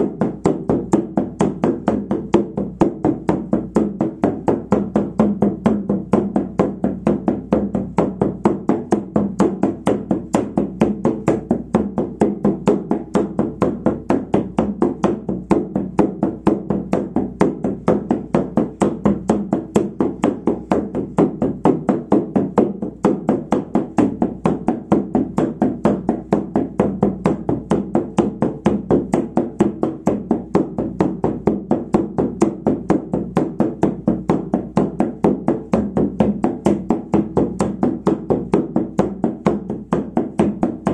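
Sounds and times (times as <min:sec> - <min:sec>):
frame drum beaten steadily: 0:00.0 - 0:40.9.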